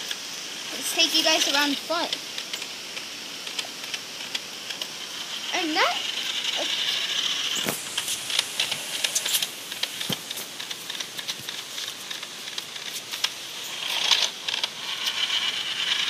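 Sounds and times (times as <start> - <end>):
high electric whine: 0.0 - 16.0
soft hiss: 0.0 - 16.0
toy car rolling over bricks: 0.0 - 16.0.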